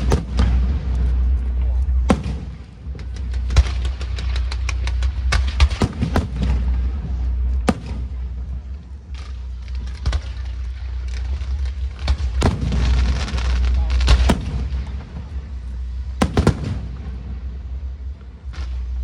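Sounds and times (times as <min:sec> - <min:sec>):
fireworks bangs and pops: 0:00.0 - 0:19.0
low rumble: 0:00.0 - 0:19.0.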